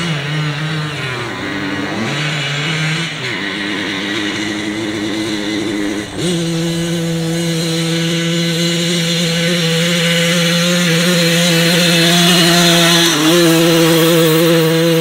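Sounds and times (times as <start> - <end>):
two-stroke moped engine revving: 0.0 - 15.0.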